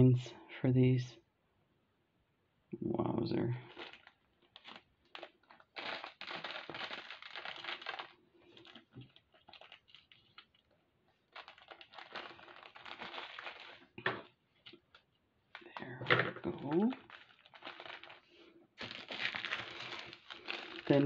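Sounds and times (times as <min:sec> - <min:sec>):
plastic packaging crinkling: 0:03.7 - 0:21.0.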